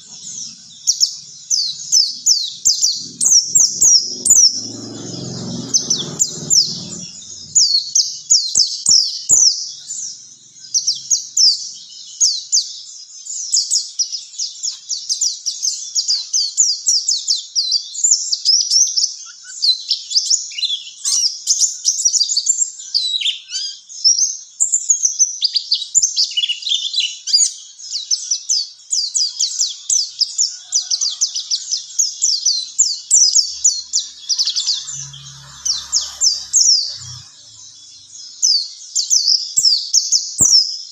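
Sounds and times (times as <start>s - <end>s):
small bird twittering song: 0.0s - 40.9s.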